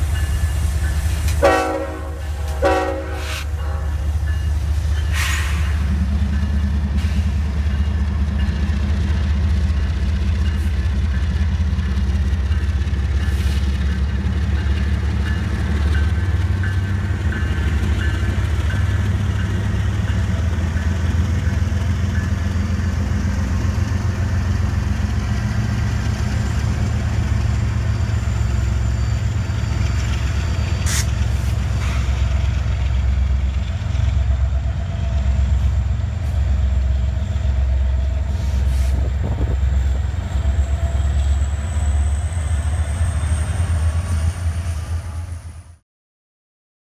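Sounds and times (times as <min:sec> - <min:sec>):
diesel locomotives rumbling past: 0:00.0 - 0:45.8.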